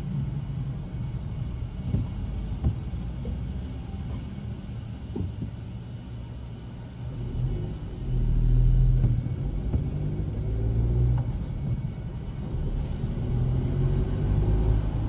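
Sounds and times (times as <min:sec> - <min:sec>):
car rumble from inside cabin: 0:00.0 - 0:15.0.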